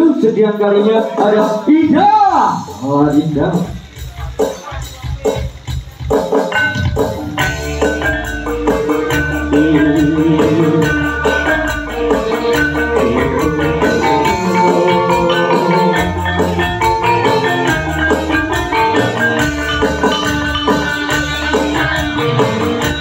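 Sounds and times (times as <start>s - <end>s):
electronic keyboard melody: 0.0s - 23.0s
bass beat and percussion: 0.2s - 23.0s.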